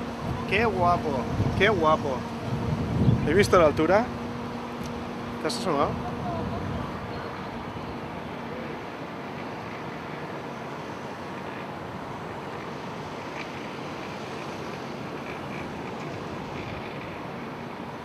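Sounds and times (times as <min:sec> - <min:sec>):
wind rushing across microphone: 0:00.0 - 0:18.0.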